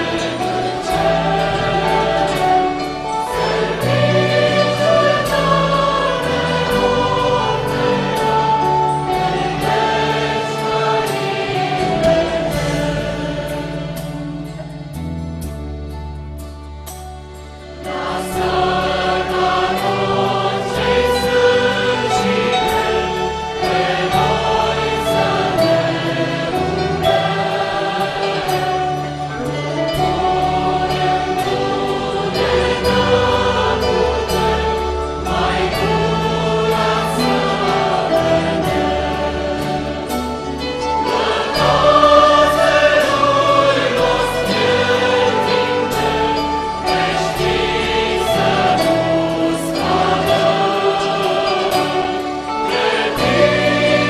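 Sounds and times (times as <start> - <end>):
choir singing a hymn: 0.0 - 54.0
violins and other instruments: 0.0 - 54.0.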